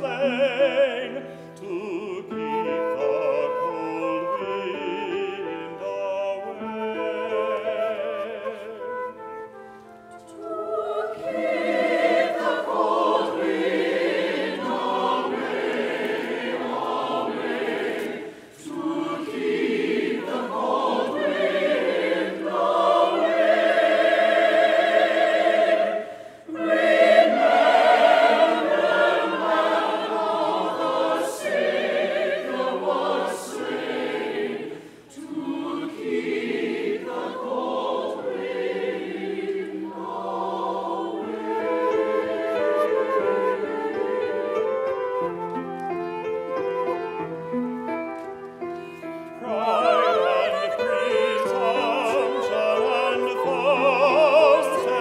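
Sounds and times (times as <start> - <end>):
choir singing a hymn: 0.0 - 47.6, 48.8 - 55.0.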